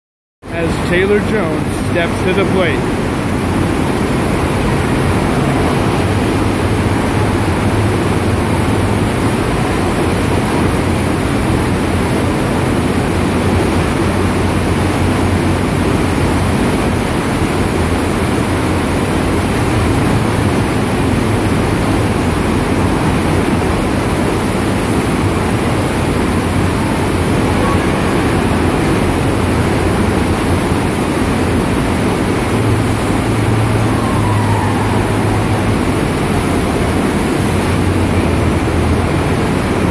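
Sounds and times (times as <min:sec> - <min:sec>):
low steady hum: 0:00.4 - 0:39.9
water rushing loudly: 0:00.5 - 0:39.9.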